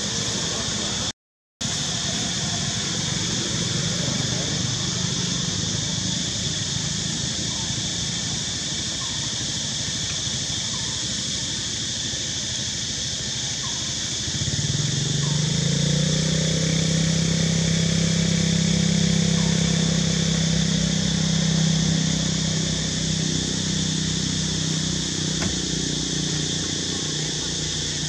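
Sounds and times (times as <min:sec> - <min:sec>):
engine humming: 0:00.0 - 0:28.0
high hiss: 0:00.0 - 0:28.0.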